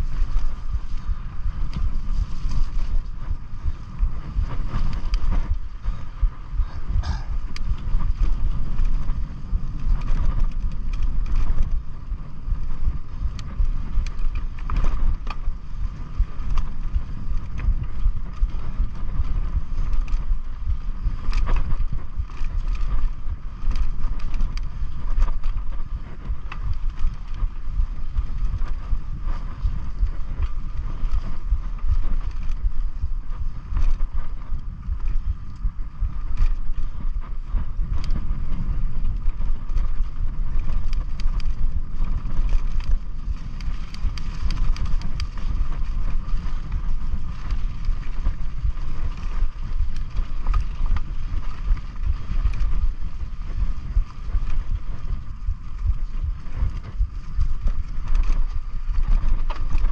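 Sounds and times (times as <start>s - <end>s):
bike clicks and rattles: 0.0s - 59.9s
wind buffeting microphone: 0.0s - 59.9s.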